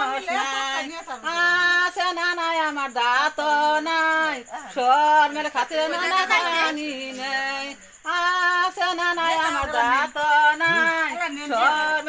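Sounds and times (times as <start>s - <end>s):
woman singing folk song: 0.0s - 12.0s.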